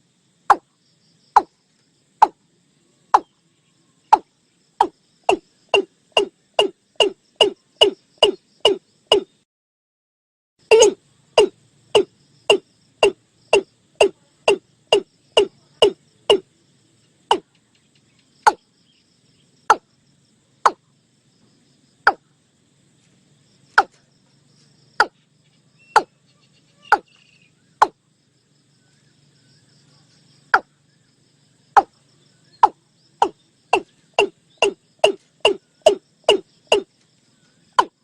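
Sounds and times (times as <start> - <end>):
faint insects humming: 0.0 - 9.5, 10.6 - 38.0.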